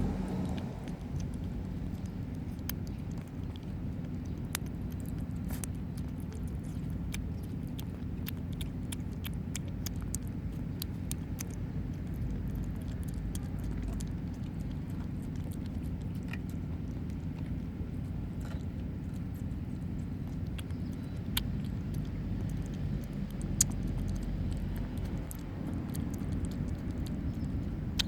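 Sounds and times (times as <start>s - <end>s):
kittens chewing and lapping: 0.0s - 28.0s
steady low rumble: 0.0s - 28.0s.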